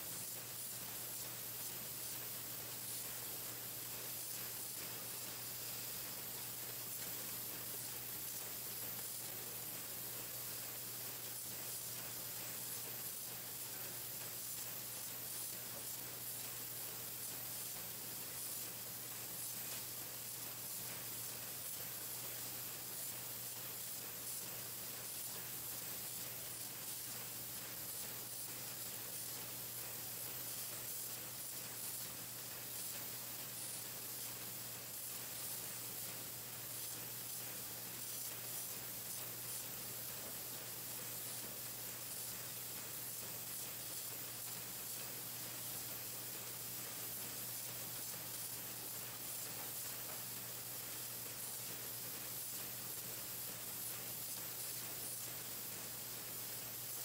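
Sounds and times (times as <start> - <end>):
painting machine hissing and humming: 0.0 - 57.0.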